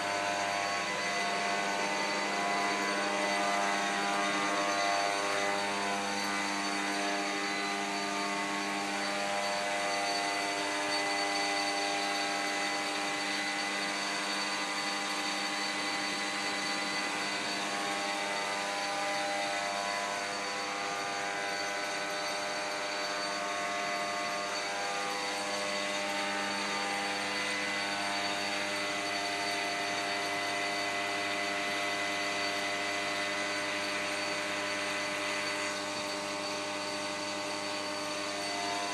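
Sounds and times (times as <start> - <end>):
electric blower whining hum: 0.0 - 38.9.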